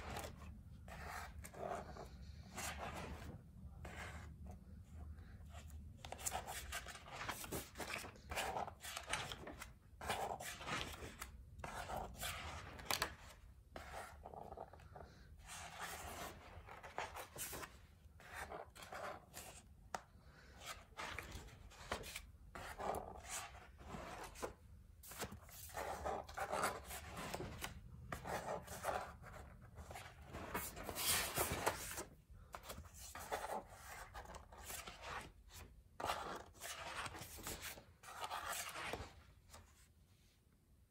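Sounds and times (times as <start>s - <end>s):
sketchbook pages rustling: 0.0s - 40.3s.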